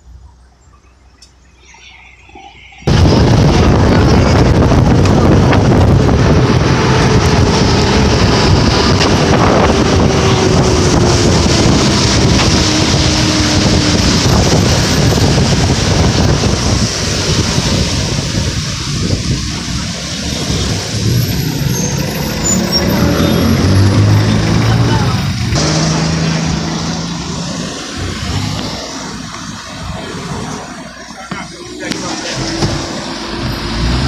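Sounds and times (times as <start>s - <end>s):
vehicle road noise: 0.0s - 34.0s
wind buffeting microphone: 2.8s - 34.0s.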